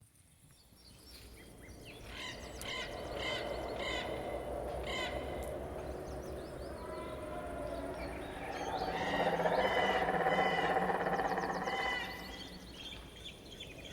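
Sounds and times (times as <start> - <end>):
bird harsh calls: 1.7 - 13.9.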